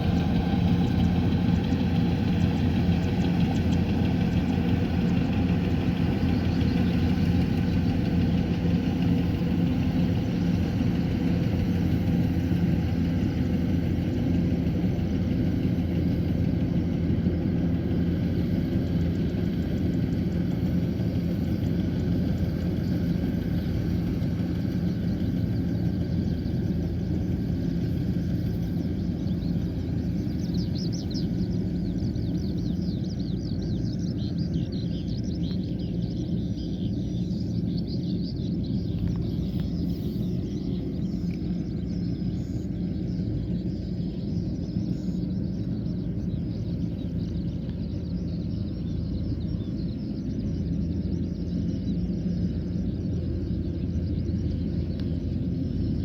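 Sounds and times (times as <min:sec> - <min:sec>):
diesel engine humming: 0:00.0 - 0:56.0.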